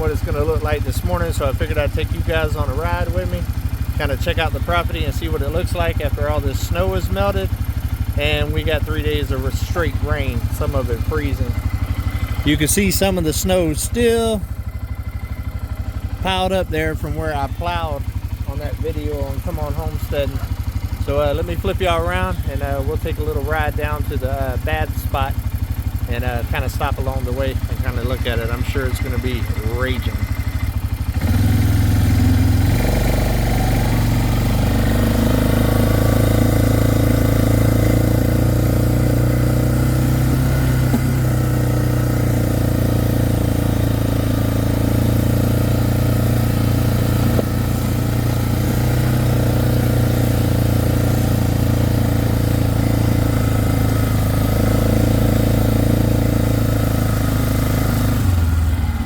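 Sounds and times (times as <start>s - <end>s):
atv engine droning: 0.0s - 59.0s.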